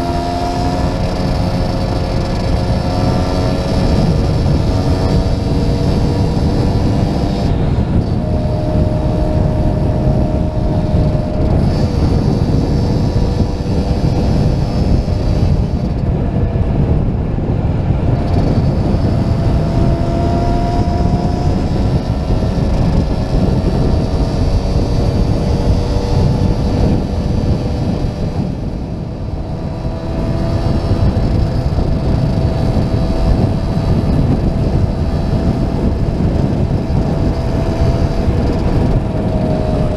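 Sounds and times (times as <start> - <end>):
small two-stroke motorcycle engines: 0.0 - 17.0, 17.9 - 39.9
heavy wind rumble: 0.0 - 39.9.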